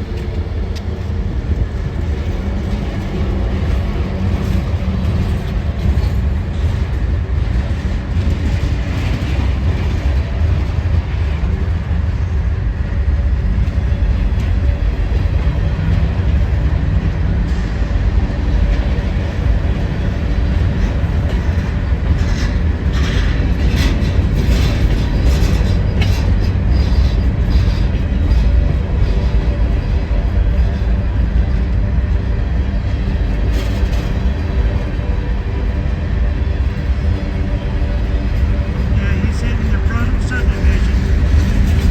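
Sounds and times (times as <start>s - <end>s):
freight train rumbling past: 0.0s - 41.9s
train wheel clatter: 0.0s - 41.9s.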